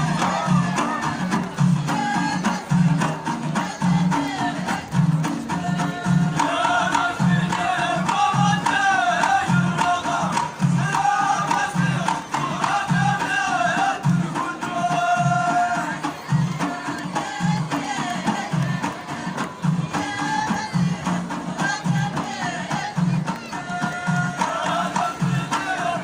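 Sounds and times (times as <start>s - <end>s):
folk singing: 0.0s - 26.0s
steady drum beat: 0.0s - 26.0s.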